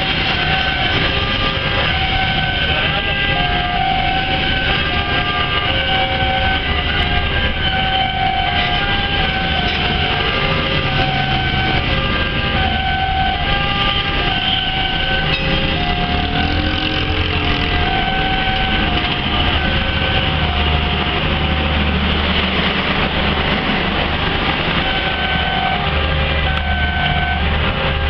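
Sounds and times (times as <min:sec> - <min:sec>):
locomotive rumble: 0:00.0 - 0:28.0.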